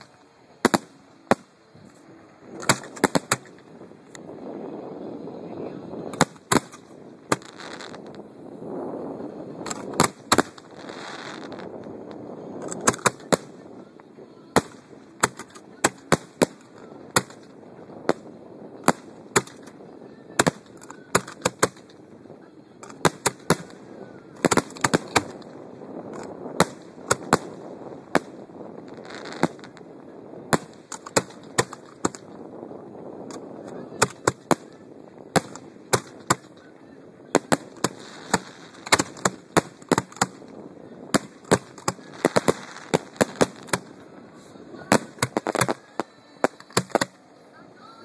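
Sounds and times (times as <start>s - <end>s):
fireworks bangs: 0.0s - 4.1s, 6.0s - 8.3s, 9.2s - 13.8s, 14.5s - 22.2s, 22.8s - 47.3s.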